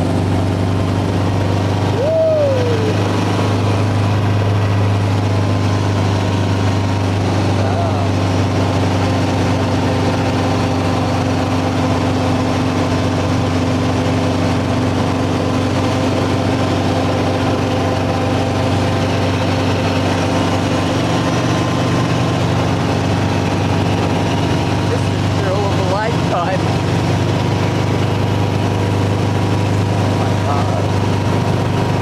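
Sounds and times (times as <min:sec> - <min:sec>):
helicopter engine and rotor: 0:00.0 - 0:32.0.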